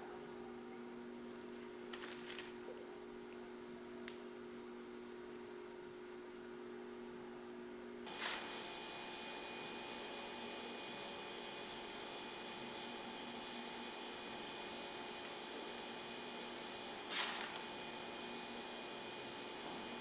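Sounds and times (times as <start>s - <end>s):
electrical hum with hiss: 0.0s - 20.0s.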